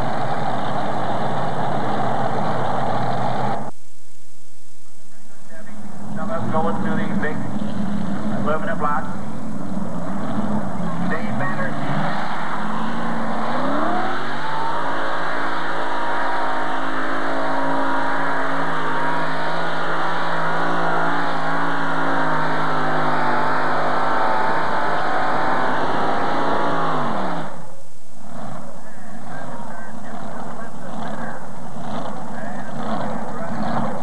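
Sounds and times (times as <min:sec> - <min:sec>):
tractor engines revving under load: 0:00.0 - 0:03.7, 0:05.6 - 0:34.0.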